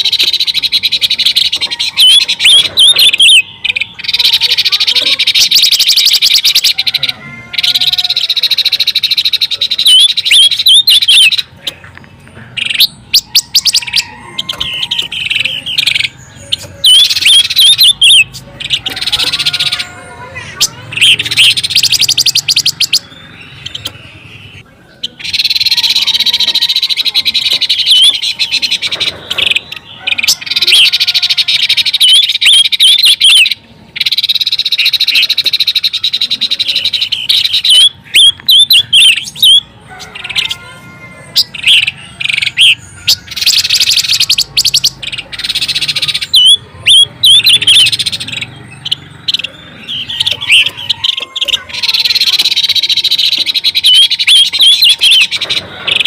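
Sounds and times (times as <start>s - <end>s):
bird twittering chirps and trills: 0.0s - 56.0s.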